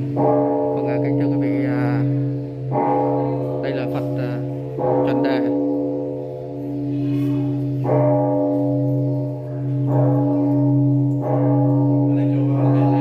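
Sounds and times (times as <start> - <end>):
sustained bell-like tones: 0.0 - 13.0.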